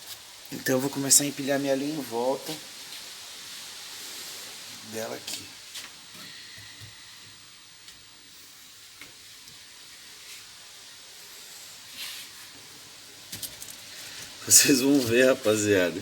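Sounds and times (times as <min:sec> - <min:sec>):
small fire hissing: 0:00.0 - 0:16.0.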